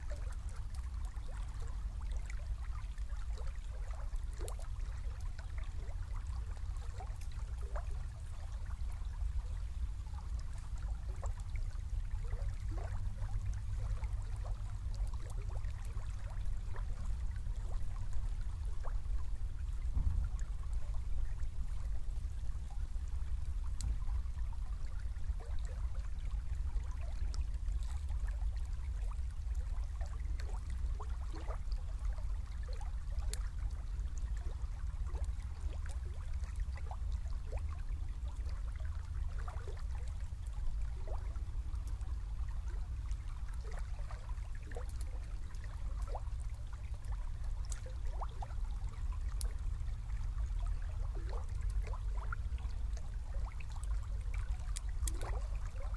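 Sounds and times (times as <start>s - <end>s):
low water rumble: 0.0s - 55.9s
river water gurgling: 0.0s - 55.9s.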